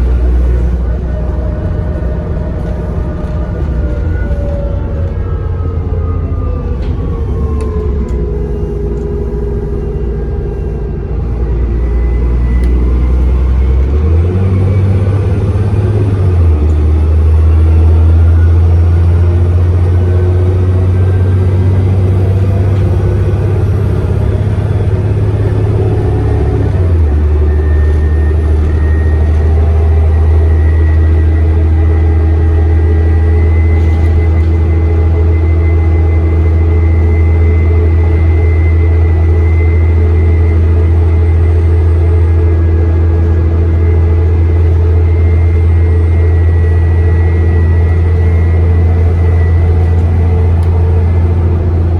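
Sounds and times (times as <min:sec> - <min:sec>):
bus diesel engine drone: 0:00.0 - 0:51.9
turbocharger whistle: 0:05.7 - 0:51.9.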